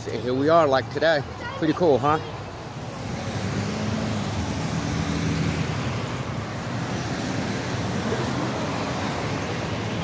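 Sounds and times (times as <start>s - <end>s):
cars passing on wet road: 0.0s - 10.0s.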